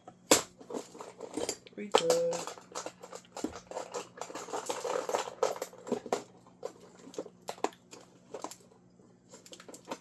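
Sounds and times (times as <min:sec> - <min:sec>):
faint steady hum: 0:00.0 - 0:10.0
small metal parts clicking and rattling: 0:00.3 - 0:10.0.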